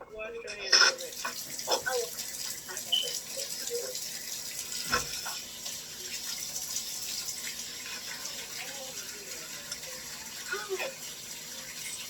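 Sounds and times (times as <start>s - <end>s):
tap water running into sink: 0.9s - 12.0s.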